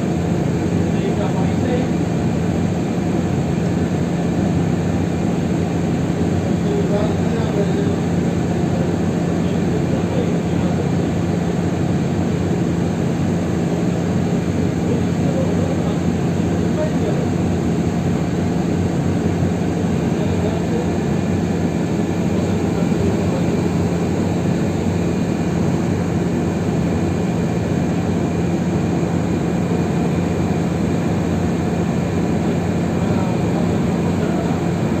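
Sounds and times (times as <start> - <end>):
bus engine droning: 0.0 - 35.0.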